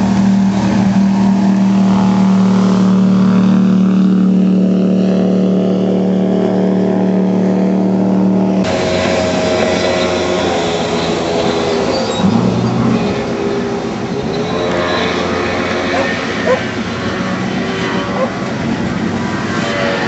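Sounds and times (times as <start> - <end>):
jet boat engine running hard: 0.0 - 20.0.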